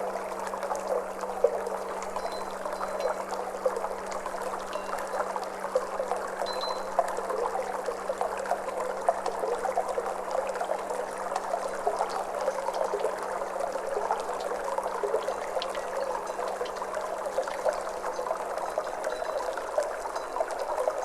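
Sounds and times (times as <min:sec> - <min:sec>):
water trickling and gurgling: 0:00.0 - 0:21.0.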